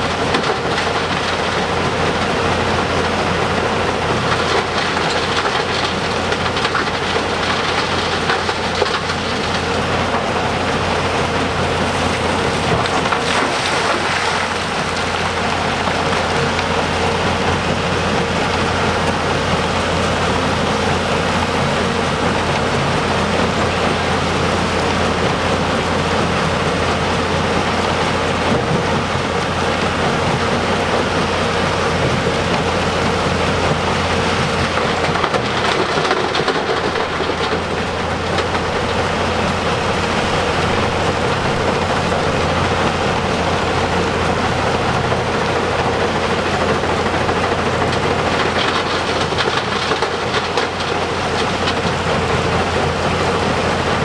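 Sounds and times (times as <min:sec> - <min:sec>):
diesel excavator and dump truck: 0:00.0 - 0:54.0.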